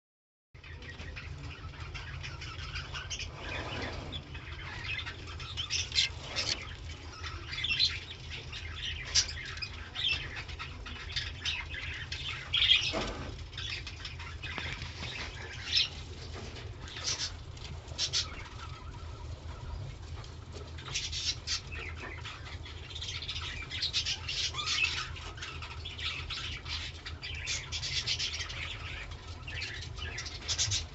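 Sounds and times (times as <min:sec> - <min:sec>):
budgerigars chirping: 0:00.6 - 0:30.9.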